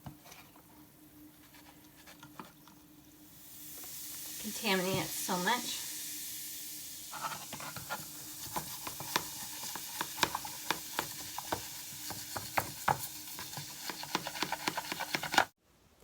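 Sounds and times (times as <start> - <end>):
faint fizzing hiss: 0.0 - 14.0.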